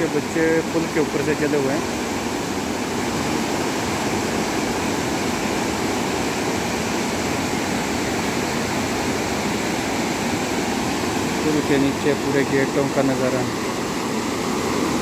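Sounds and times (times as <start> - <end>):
floodwater rushing through gates: 0.0 - 15.0.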